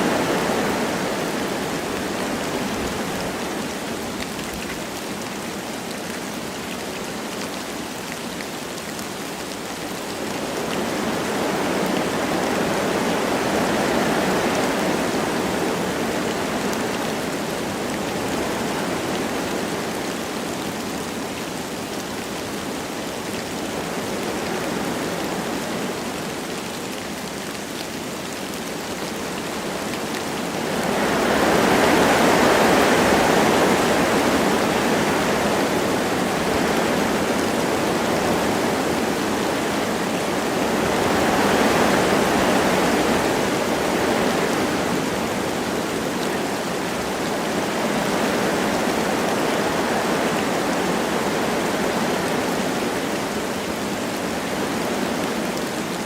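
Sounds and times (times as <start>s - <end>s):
light rain falling: 0.0s - 56.0s
wind through trees: 0.0s - 56.0s.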